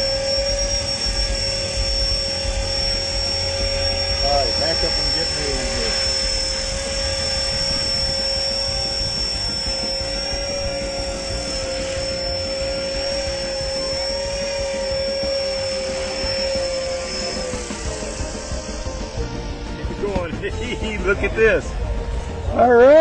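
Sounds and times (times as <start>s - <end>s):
rc helicopter whine: 0.0s - 23.0s.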